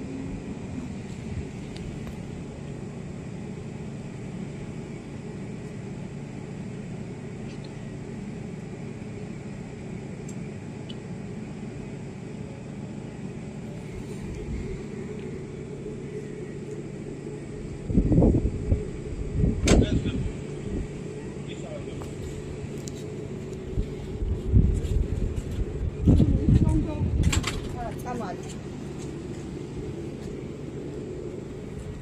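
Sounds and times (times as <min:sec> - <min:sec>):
constant low hum: 0:00.0 - 0:32.0
street traffic rumble: 0:00.0 - 0:32.0.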